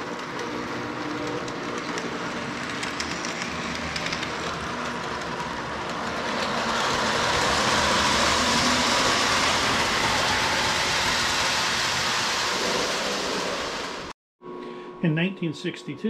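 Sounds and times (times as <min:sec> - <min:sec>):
model train rumbling: 0:00.0 - 0:14.1.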